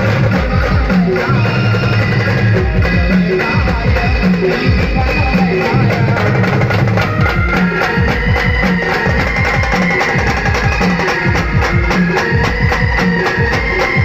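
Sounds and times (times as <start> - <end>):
drum and percussion beat: 0.0 - 14.0
sustained melody line: 0.0 - 14.0.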